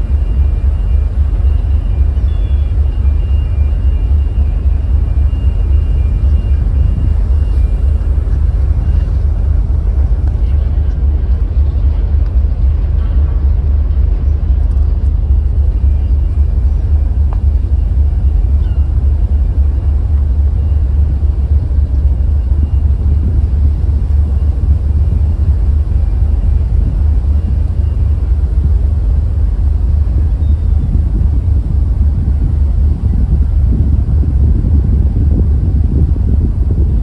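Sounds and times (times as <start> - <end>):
ship engine rumble: 0.0 - 37.0
wind buffeting microphone: 0.0 - 37.0.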